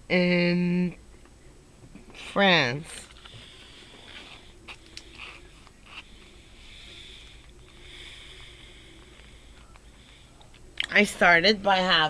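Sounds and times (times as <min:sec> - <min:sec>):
faint breathing: 0:01.0 - 0:10.8.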